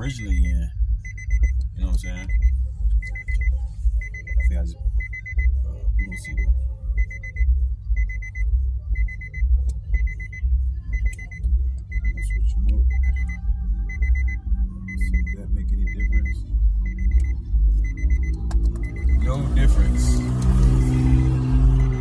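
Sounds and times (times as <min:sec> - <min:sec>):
car warning chime beeping: 0:00.0 - 0:22.0.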